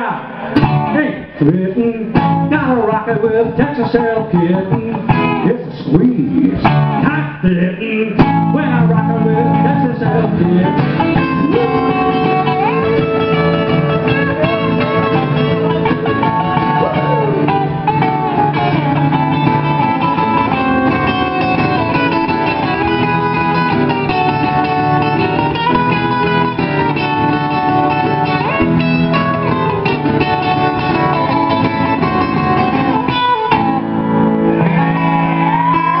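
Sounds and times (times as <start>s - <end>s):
electric lead guitar: 0.0s - 36.0s
strummed acoustic guitar: 0.4s - 35.8s.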